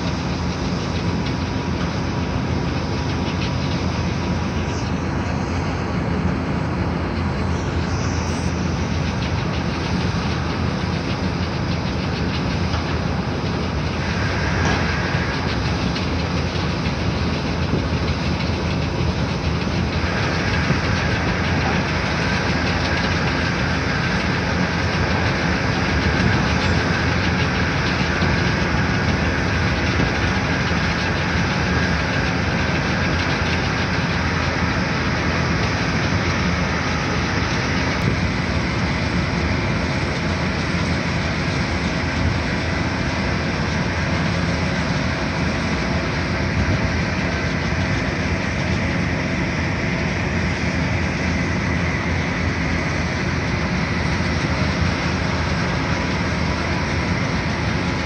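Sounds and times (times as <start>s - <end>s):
construction machinery rumbling: 0.0s - 58.0s
road traffic: 0.0s - 58.0s.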